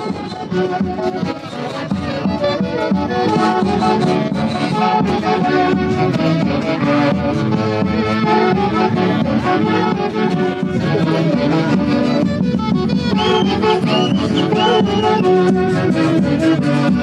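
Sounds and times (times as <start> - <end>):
saxophones and violins playing melody: 0.0 - 17.0.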